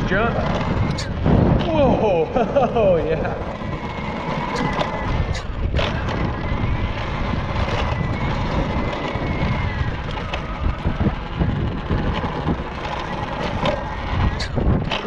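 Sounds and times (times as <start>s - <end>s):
bike clicks and rattles: 0.0s - 15.0s
electric motor whine: 0.0s - 15.0s
wind rumbling on microphone: 0.0s - 15.0s.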